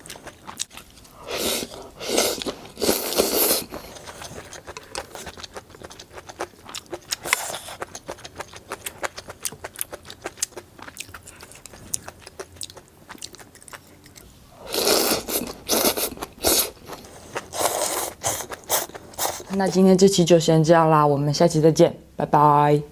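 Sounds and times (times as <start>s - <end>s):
crunchy food being chewed: 0.0s - 19.8s.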